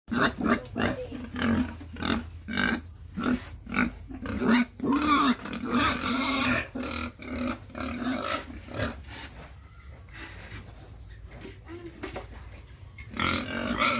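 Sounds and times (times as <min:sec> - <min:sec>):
pigs grunting: 0:00.1 - 0:10.7, 0:13.0 - 0:13.9.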